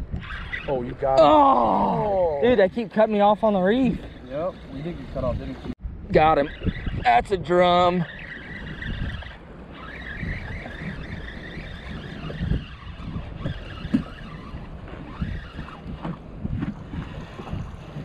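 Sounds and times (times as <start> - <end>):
choppy water: 0.0 - 18.0
wind buffeting microphone: 0.0 - 18.0.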